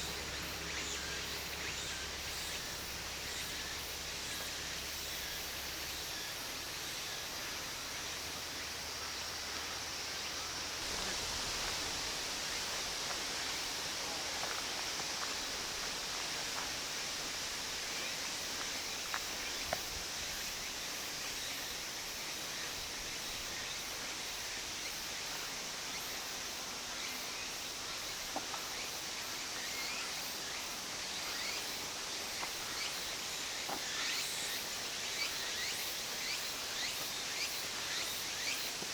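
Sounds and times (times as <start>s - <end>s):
outdoor ambient hiss: 0.0s - 38.9s.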